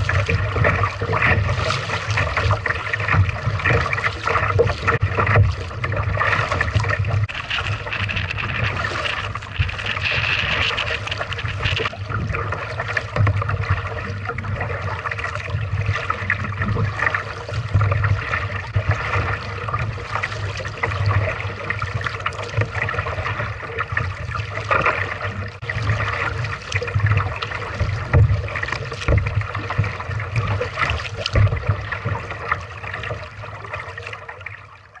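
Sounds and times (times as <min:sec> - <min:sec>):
water splashing around paddled kayak: 0:00.0 - 0:35.0.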